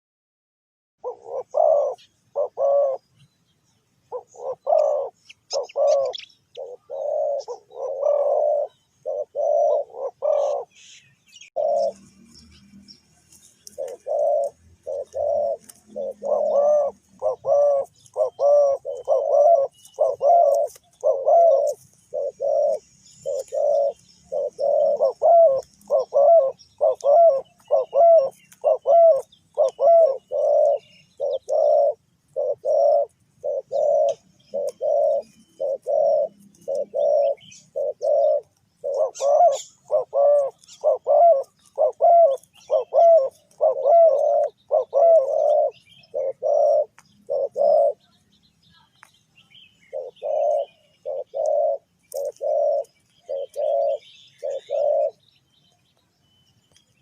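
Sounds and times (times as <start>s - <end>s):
dove cooing: 1.0s - 48.3s, 49.6s - 55.7s
small birds chirping: 1.0s - 57.0s.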